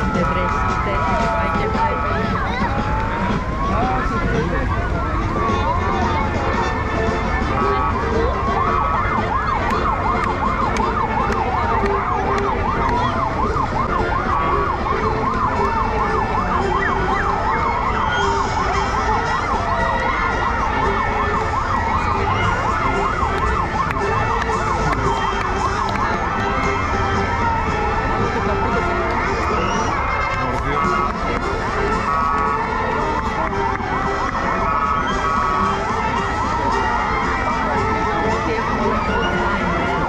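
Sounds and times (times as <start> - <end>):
fast yelping sirens: 0.0 - 40.0
rising and falling siren: 0.0 - 40.0.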